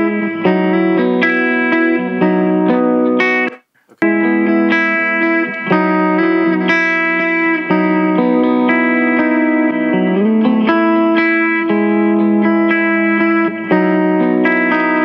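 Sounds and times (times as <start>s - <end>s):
electric guitar riff: 0.0s - 15.0s.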